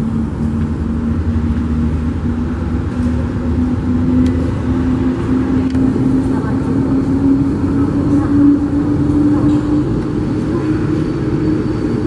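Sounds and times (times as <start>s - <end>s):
aircraft low rumble with humming tone: 0.0s - 12.0s.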